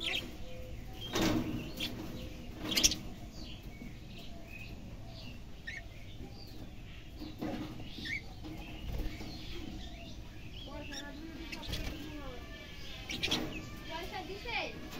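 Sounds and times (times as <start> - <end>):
budgerigars chirping: 0.0 - 14.9.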